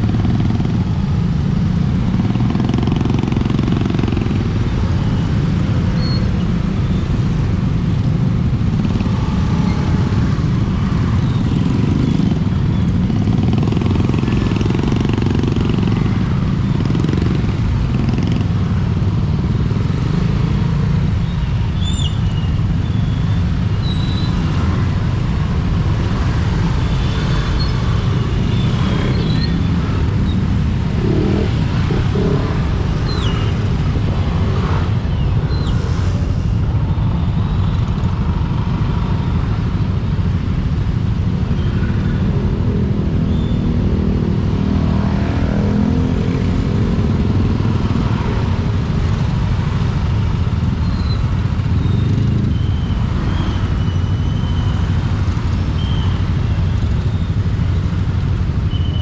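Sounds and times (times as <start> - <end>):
vehicles passing: 0.0 - 59.0
wind and motorcycle engine rumble: 0.0 - 59.0.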